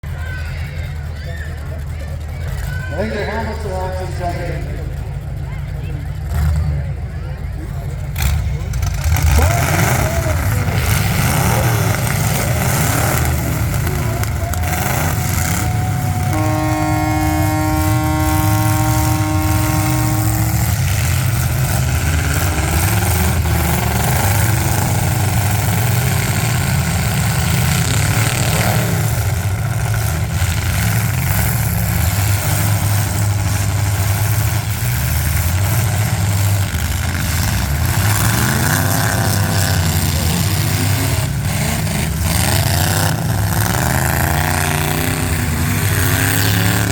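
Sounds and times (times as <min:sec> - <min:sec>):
car engines revving: 0:00.0 - 0:46.9
horn blast: 0:09.2 - 0:46.9.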